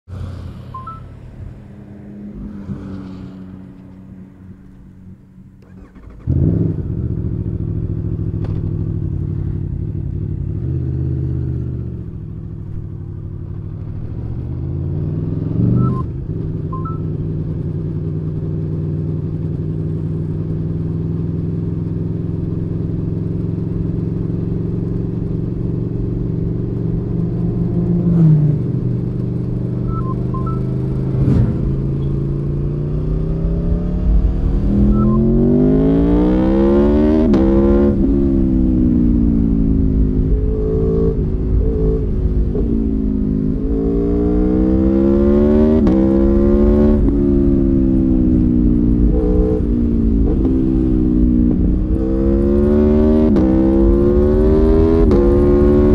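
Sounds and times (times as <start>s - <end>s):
motorcycle engine revving: 0.1s - 55.9s.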